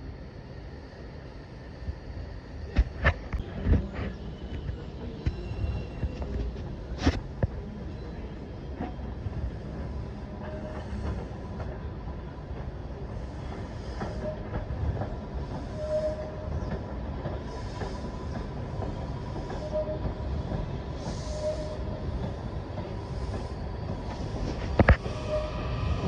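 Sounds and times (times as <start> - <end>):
distant train rumble: 0.0 - 26.0
train squeaks: 3.0 - 11.8, 12.6 - 26.0.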